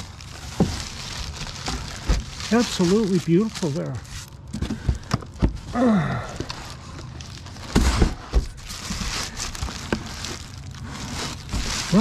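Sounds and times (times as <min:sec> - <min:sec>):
cardboard box rustling: 0:00.0 - 0:05.7, 0:06.4 - 0:12.0
plastic wrap crinkling: 0:00.0 - 0:05.7, 0:06.3 - 0:12.0.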